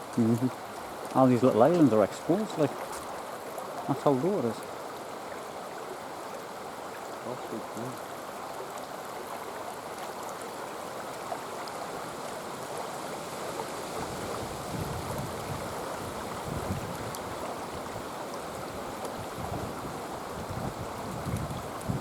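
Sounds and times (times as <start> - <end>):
river water over stones: 0.0 - 22.0.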